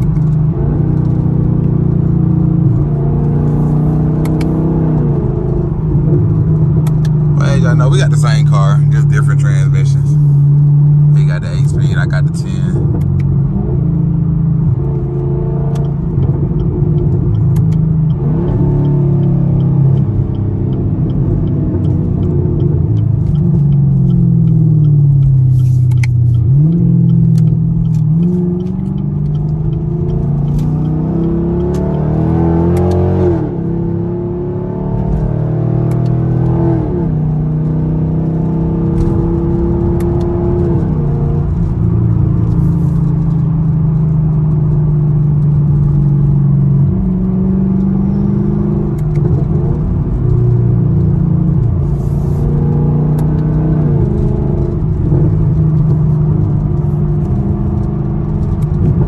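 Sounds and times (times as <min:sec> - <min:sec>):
car engine exhaust while driving: 0:00.0 - 0:59.0.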